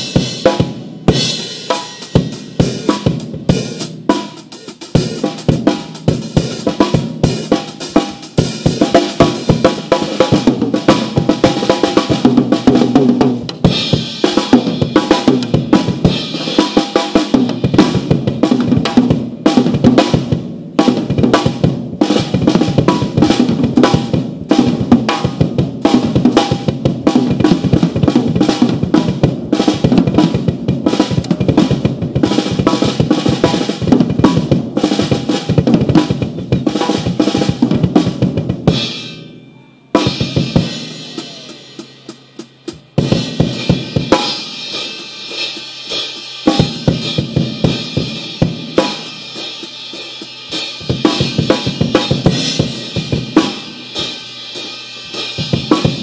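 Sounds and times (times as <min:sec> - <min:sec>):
drum kit playing fast beat: 0:00.0 - 0:39.3, 0:39.9 - 0:56.0.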